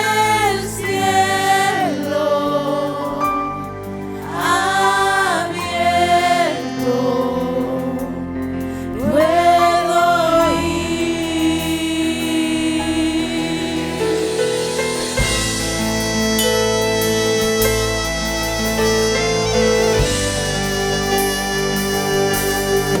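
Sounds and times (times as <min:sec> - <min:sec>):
people singing worship song: 0:00.0 - 0:23.0
sustained instrumental chords: 0:00.0 - 0:23.0.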